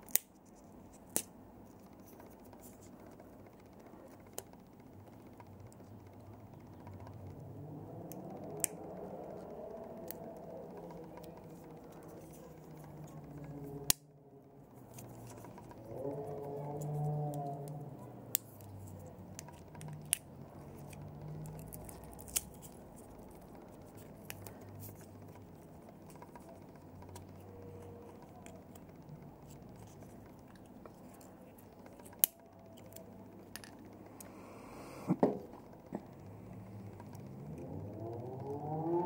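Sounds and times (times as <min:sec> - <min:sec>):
small parts clicking: 0:00.0 - 0:34.4.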